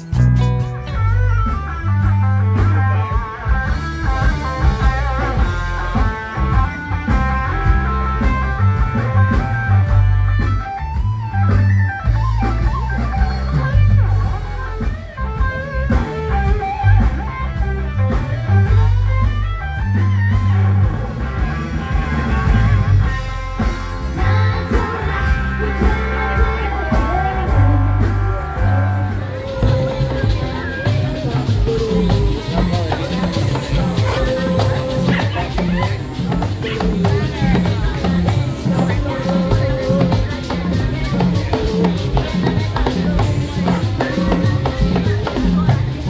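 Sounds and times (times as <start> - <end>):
electric guitar: 0.0 - 46.0
heavy bass: 0.0 - 46.0
live band playing: 0.0 - 46.0
steady beat: 0.0 - 46.0.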